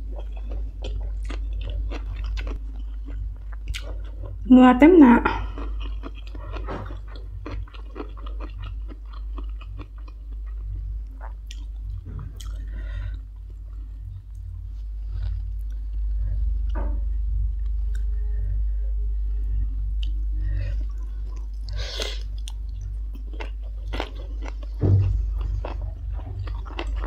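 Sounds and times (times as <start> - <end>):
close-miked chewing: 0.0 - 4.4, 5.4 - 15.9, 20.0 - 27.0
steady low hum: 0.0 - 27.0.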